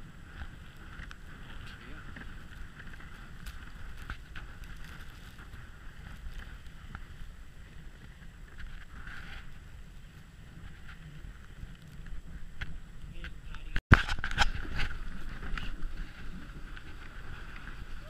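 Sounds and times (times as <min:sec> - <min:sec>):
sled runners hissing over snow: 0:00.0 - 0:13.0, 0:14.6 - 0:18.0
wind rumble on microphone: 0:00.0 - 0:18.0.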